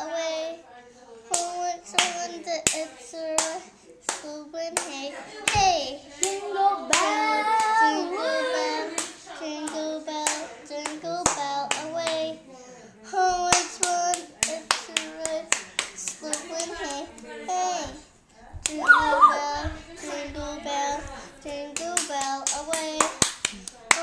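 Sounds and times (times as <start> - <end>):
child singing: 0.0 - 24.0.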